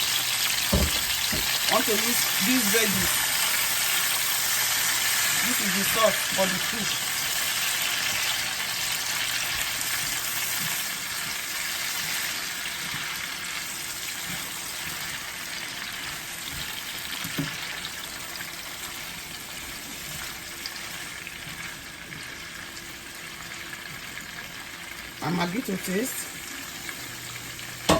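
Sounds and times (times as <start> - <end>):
vegetables sizzling in oil: 0.0 - 27.9.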